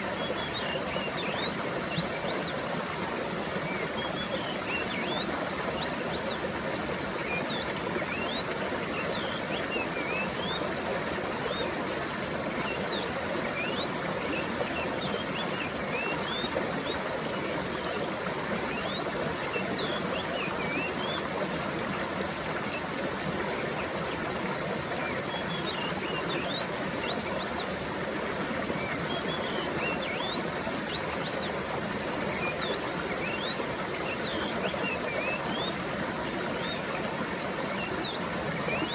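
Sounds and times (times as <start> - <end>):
water flowing: 0.0 - 38.9.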